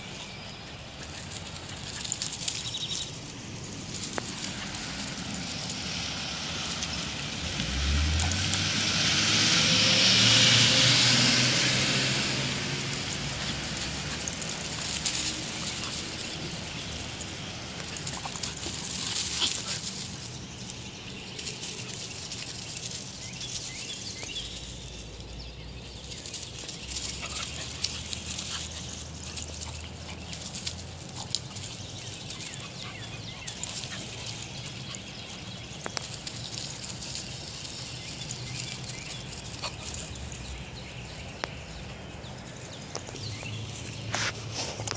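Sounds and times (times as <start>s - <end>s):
scuffs and rustles in leaves: 0.0s - 44.9s.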